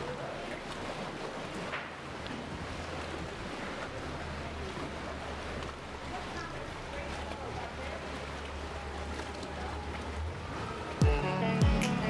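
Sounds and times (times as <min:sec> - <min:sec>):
sea waves washing in cave: 0:00.0 - 0:11.0.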